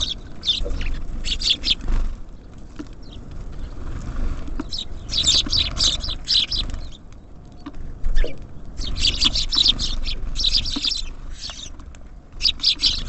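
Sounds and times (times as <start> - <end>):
small songbirds chirping: 0.0 - 13.0
steady low rumble: 0.0 - 13.0.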